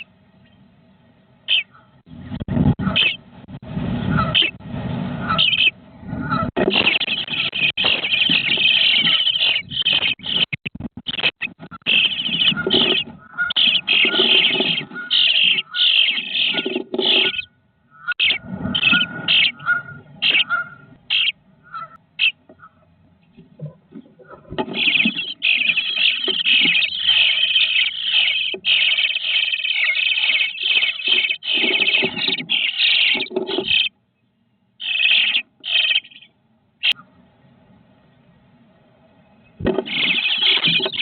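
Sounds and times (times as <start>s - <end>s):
nestling birds calling: 1.4s - 3.3s, 4.1s - 4.6s, 5.2s - 37.2s, 39.2s - 41.0s.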